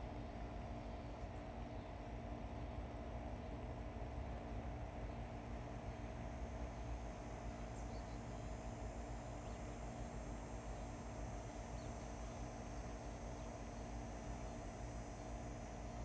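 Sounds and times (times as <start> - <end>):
insect chorus: 0.2 - 16.0.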